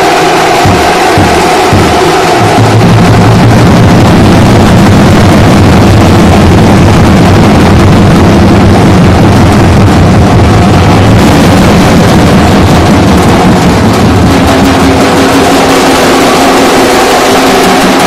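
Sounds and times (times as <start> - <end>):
loud distorted drumming: 0.0 - 18.0.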